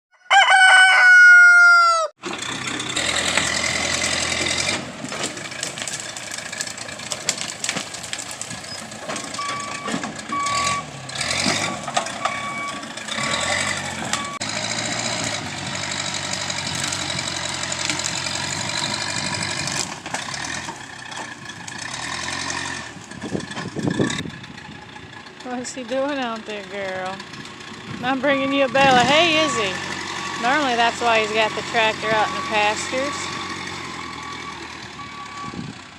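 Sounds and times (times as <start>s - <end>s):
tractor engine running: 2.2s - 35.9s.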